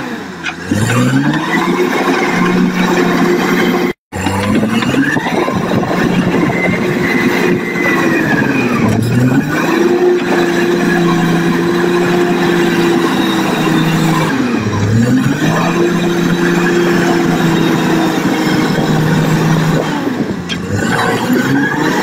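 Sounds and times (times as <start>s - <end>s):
bulldozer diesel engine under load: 0.0s - 22.0s.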